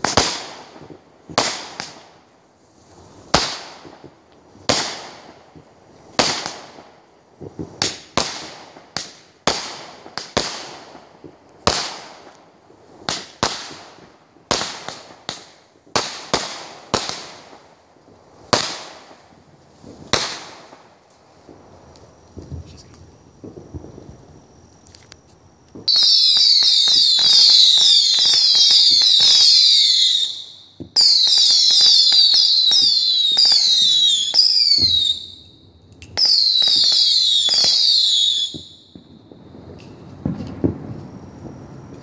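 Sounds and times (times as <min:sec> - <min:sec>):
fireworks exploding: 0:00.0 - 0:42.0.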